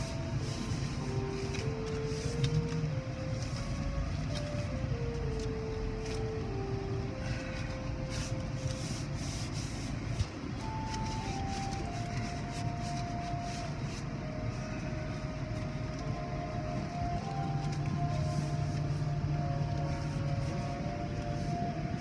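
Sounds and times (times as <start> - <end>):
car idling from inside: 0.0 - 22.0
faint music with held notes: 0.0 - 22.0.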